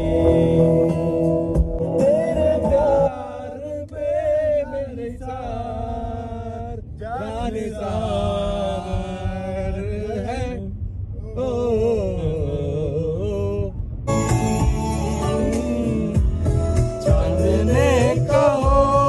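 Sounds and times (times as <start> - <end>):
low rumble: 0.0 - 19.0
men singing devotional song: 2.0 - 13.8, 14.8 - 19.0.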